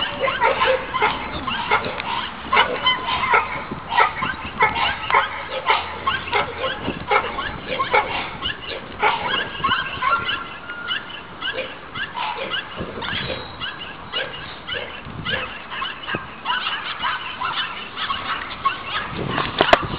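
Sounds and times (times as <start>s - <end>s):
puppies yipping and whining: 0.0s - 19.9s.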